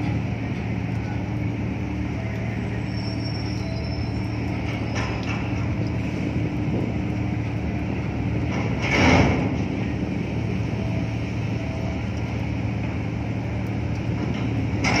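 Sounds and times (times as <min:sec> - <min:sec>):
ship machinery drone: 0:00.0 - 0:15.0.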